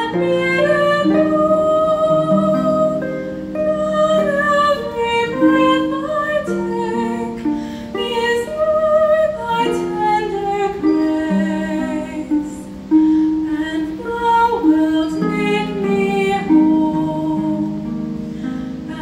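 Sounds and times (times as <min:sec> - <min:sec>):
harp playing chords and arpeggios: 0:00.0 - 0:19.0
woman singing: 0:00.0 - 0:19.0.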